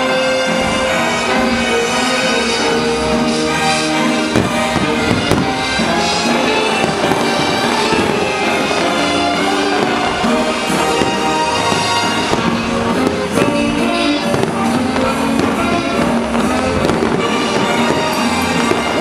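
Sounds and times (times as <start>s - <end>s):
fireworks shells bursting: 0.0s - 19.0s
loud music: 0.0s - 19.0s.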